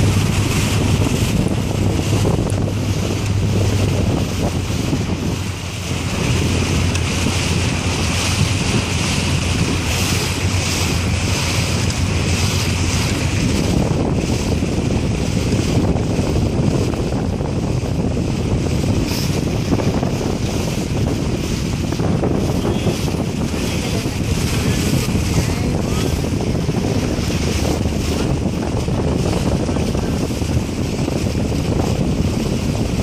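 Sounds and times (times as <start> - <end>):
boat paddling water sounds: 0.0 - 33.0
wind noise on microphone: 0.0 - 33.0.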